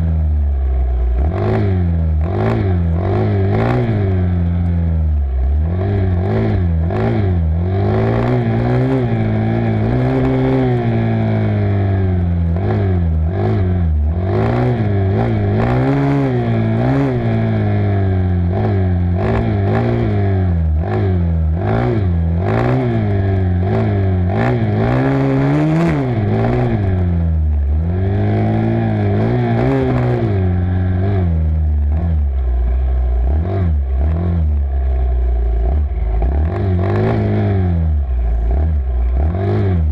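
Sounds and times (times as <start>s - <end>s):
dirt bike engine revving: 1.1s - 4.4s, 5.6s - 39.9s.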